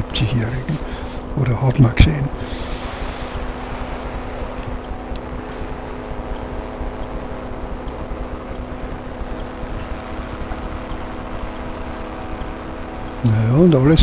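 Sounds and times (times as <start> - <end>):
microlight engine droning: 0.0 - 14.0
wind rumbling on microphone: 1.2 - 14.0.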